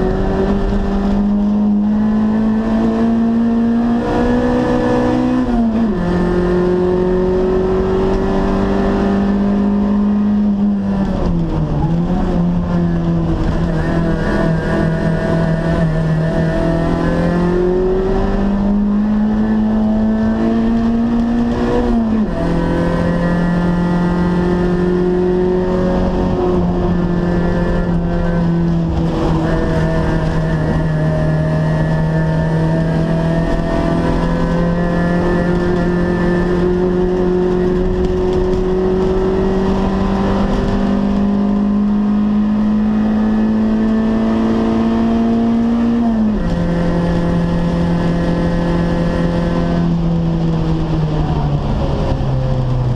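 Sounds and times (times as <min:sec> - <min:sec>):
race car engine at high revs: 0:00.0 - 0:52.9.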